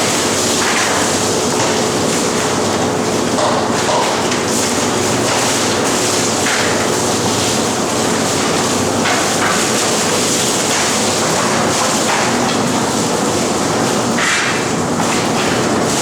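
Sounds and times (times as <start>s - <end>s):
fish filleting machine running: 0.0s - 16.0s.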